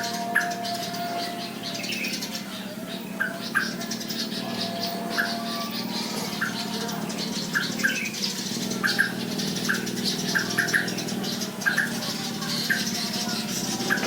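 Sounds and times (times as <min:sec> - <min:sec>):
low background hum: 0:00.0 - 0:14.0
songbirds chirping: 0:00.0 - 0:14.0.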